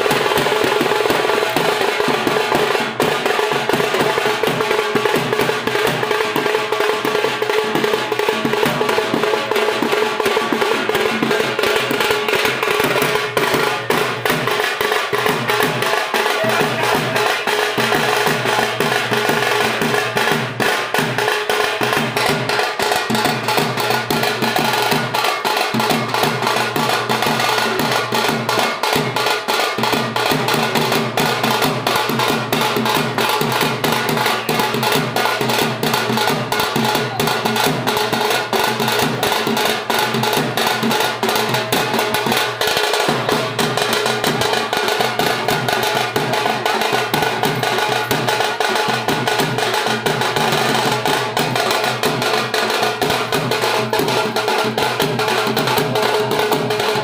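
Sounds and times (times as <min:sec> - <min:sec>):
drums in fast dance rhythm: 0:00.0 - 0:57.0.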